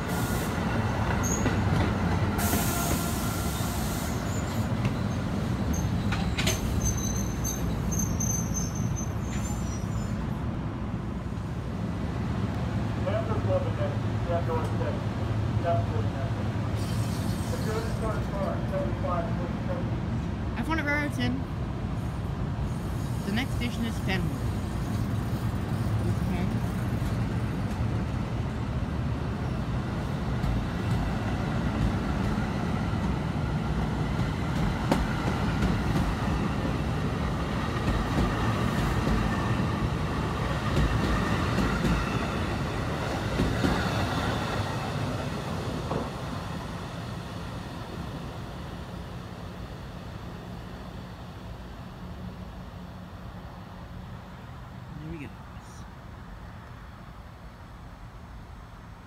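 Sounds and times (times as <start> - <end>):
train wheels rumbling on rails: 0.0 - 10.6, 11.4 - 20.8, 21.5 - 54.1.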